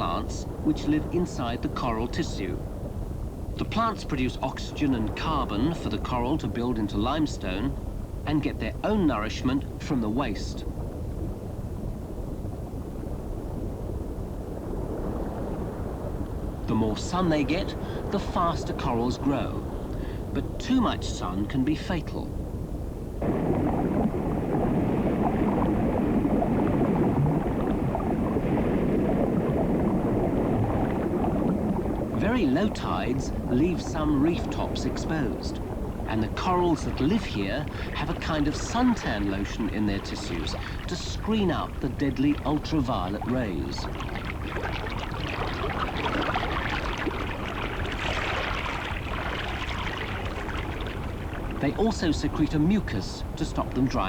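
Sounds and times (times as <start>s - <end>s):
seawater trickling over coral: 0.0s - 22.2s, 23.2s - 54.0s
sea surf rushing: 0.0s - 54.0s.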